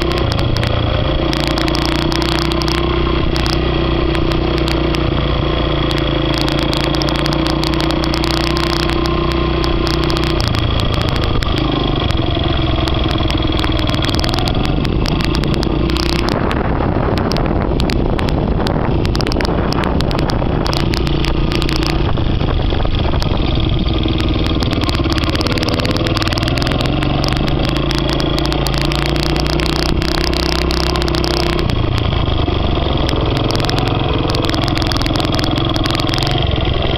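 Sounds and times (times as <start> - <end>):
crackles and clicks: 0.0 - 36.9
small two-stroke engine running: 0.0 - 36.9.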